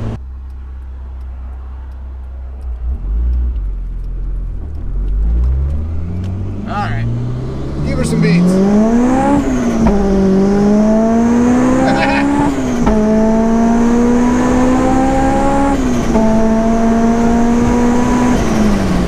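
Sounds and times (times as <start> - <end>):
car engine revving through gears: 0.0 - 19.0
supercharger whine: 0.0 - 19.0.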